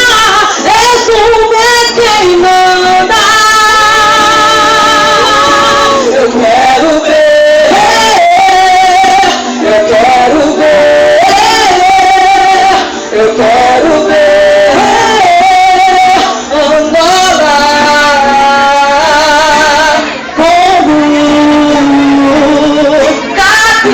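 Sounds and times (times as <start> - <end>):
group singing long notes: 0.0 - 23.9.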